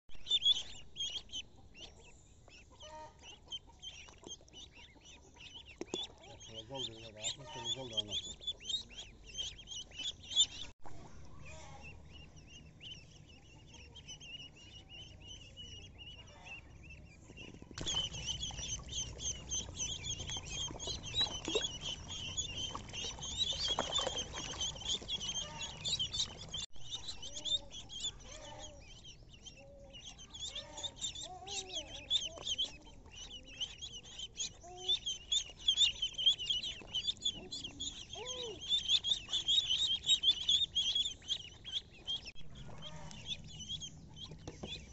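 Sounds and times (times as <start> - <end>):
ducklings peeping: 0.1 - 44.9.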